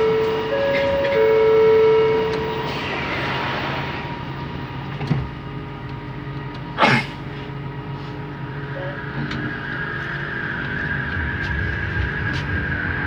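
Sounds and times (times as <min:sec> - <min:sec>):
train motor hum and whine: 0:00.0 - 0:13.0.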